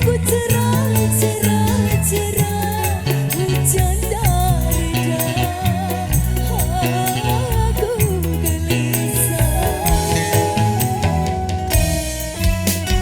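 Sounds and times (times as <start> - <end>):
ornamented melody with percussion: 0.0 - 13.0.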